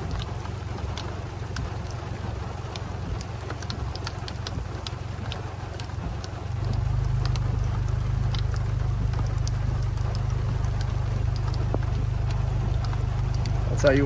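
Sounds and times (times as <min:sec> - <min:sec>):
rain on car roof and glass: 0:00.0 - 0:14.0
vehicle low rumble: 0:00.0 - 0:14.0.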